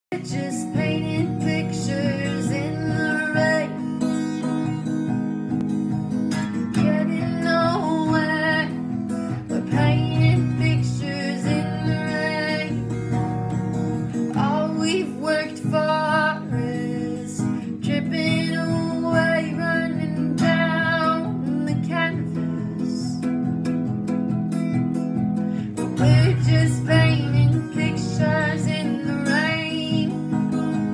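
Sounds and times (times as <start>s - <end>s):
girl singing: 0.1s - 4.4s, 6.7s - 13.2s, 14.3s - 23.3s, 25.8s - 30.9s
acoustic guitar strumming: 0.1s - 30.9s.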